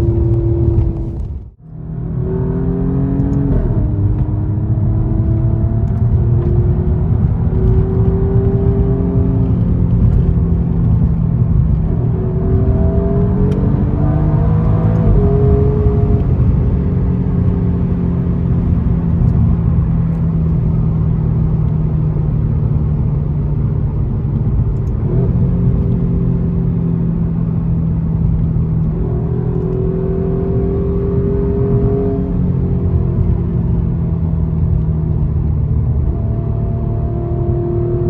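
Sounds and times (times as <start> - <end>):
car engine cruising: 0.0 - 38.0.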